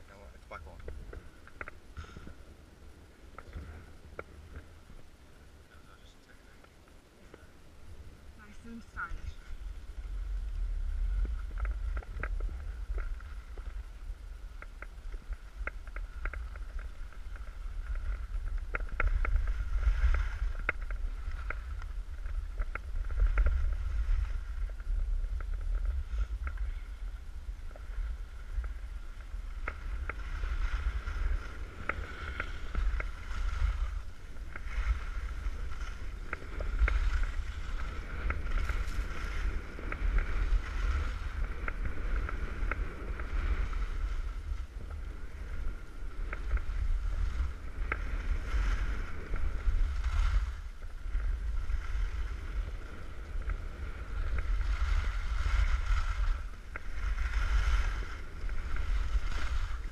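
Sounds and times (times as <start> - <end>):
skis scraping over snow: 0.0 - 59.9
wind rumbling on microphone: 0.0 - 59.9.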